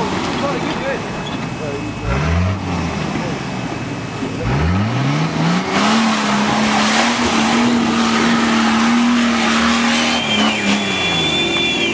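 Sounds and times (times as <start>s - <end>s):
engine at high revs: 2.0s - 11.9s.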